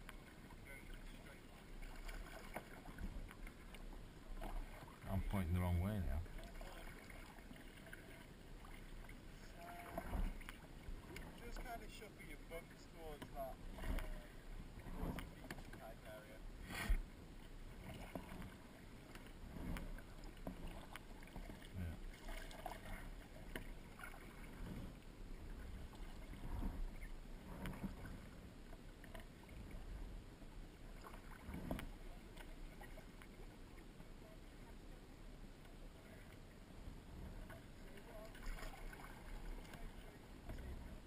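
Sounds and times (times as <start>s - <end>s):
kayak paddle splashes: 0.0s - 41.0s.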